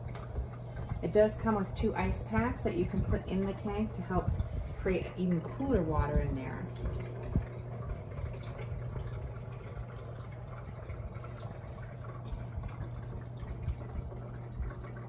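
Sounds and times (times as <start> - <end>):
fan motor hum: 0.0 - 15.0
water trickling through pad: 0.0 - 15.0.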